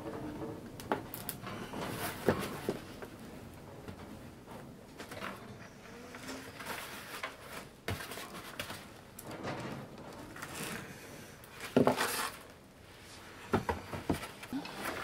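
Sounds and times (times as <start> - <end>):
bamboo basket creaking and rustling: 0.0 - 15.0.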